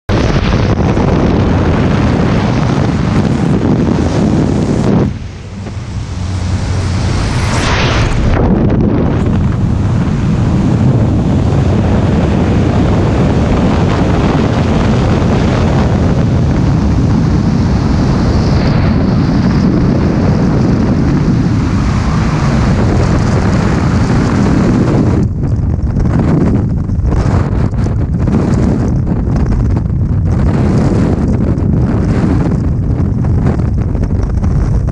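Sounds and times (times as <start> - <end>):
wind rushing over microphone: 0.1 - 34.9.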